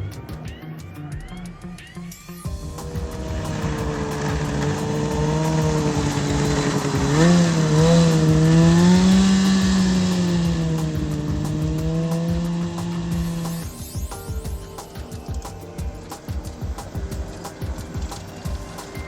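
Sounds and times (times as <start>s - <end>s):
engine running: 2.5s - 19.0s.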